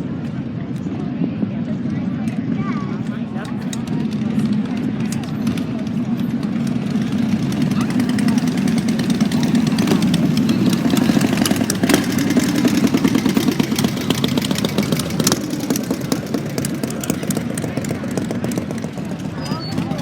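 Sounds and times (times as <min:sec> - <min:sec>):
motorcycle engines idling: 0:01.5 - 0:20.0.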